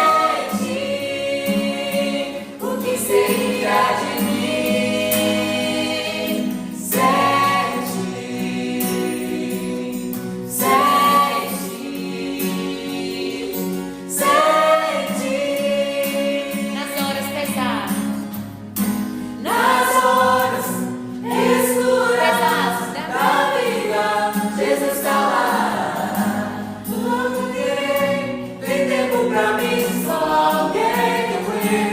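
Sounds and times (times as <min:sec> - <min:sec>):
gospel choir singing: 0:00.0 - 0:31.9.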